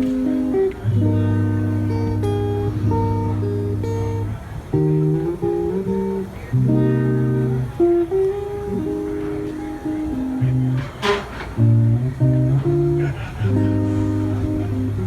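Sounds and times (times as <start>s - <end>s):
instrumental music with held chords: 0.0s - 15.0s.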